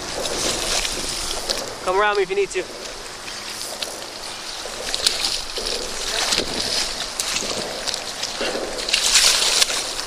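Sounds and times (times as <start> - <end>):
fish thrashing and splashing: 0.0 - 10.0
water sloshing: 0.0 - 10.0.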